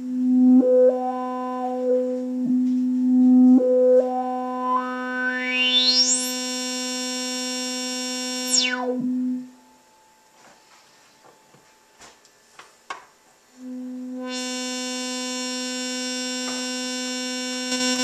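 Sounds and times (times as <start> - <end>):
synthesizer tone with filter sweep: 0.0 - 10.0, 13.6 - 18.0.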